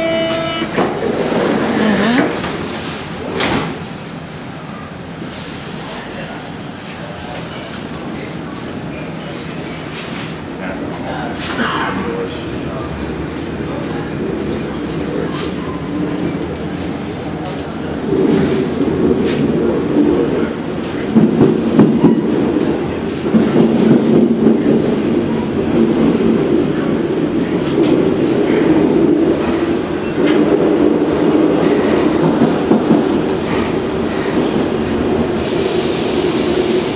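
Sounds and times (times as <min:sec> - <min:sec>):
train low rumble: 0:00.0 - 0:36.9.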